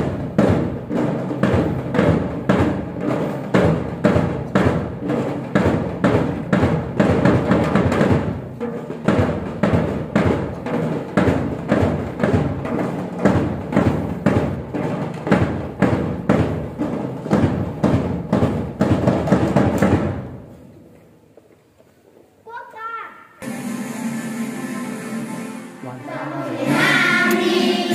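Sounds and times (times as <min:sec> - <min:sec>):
drums beating a rhythm: 0:00.0 - 0:20.7, 0:23.4 - 0:27.9.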